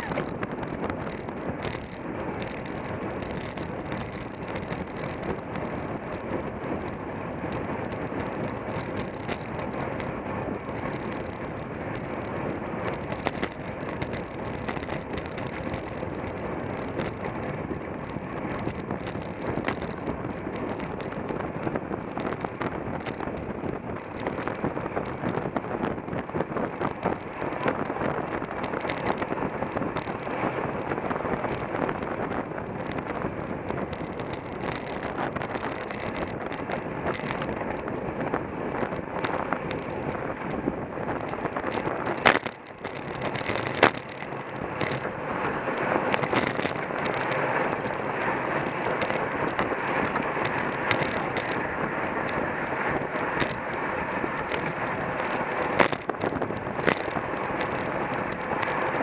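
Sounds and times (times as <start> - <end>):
bike clicks and rattles: 0.0 - 59.0
tyre and road noise: 0.0 - 59.0
wind rushing over microphone: 0.0 - 59.0.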